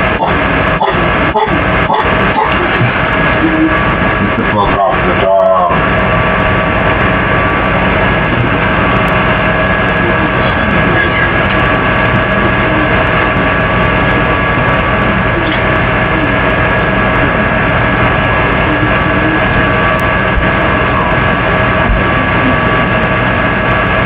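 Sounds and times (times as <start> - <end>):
constant multi-tone hum: 0.0 - 24.0.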